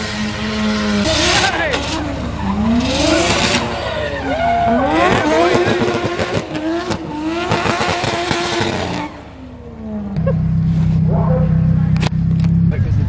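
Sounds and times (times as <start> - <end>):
car engine revving hard: 0.0 - 12.7.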